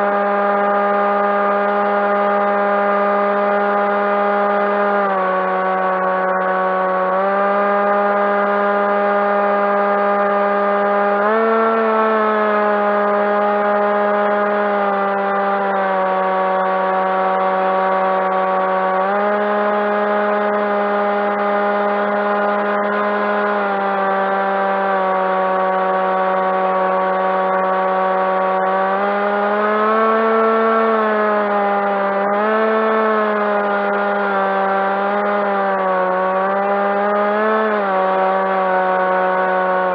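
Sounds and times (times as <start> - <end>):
model plane motor droning: 0.0 - 39.9.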